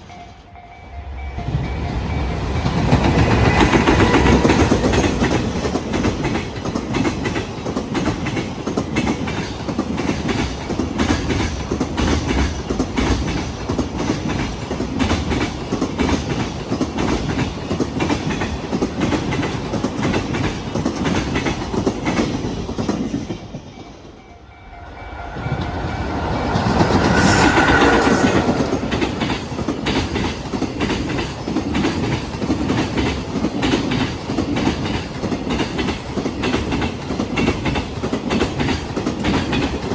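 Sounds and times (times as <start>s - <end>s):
train wheels clattering on rail joints: 1.6s - 24.3s, 25.6s - 39.9s.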